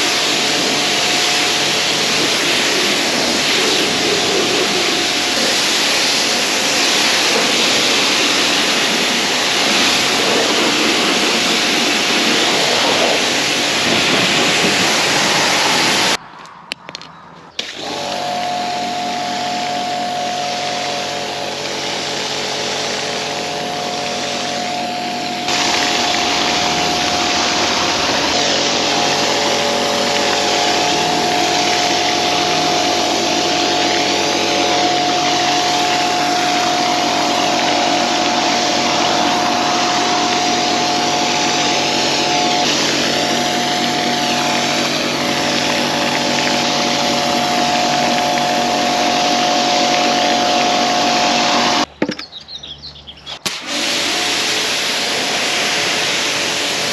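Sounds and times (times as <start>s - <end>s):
cleaning machine motor whine: 0.0s - 16.2s, 17.6s - 51.9s, 53.4s - 56.9s
rush of spray: 0.0s - 16.2s, 17.6s - 51.9s, 53.3s - 56.9s.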